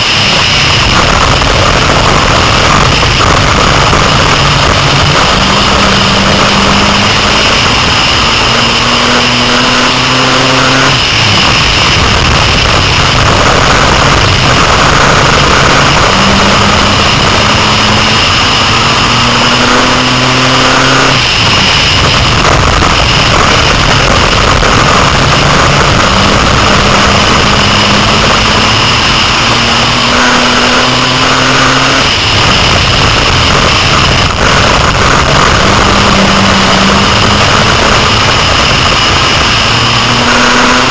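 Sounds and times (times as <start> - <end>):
race car engine accelerating: 0.0 - 40.9
road and wind noise: 0.0 - 40.9.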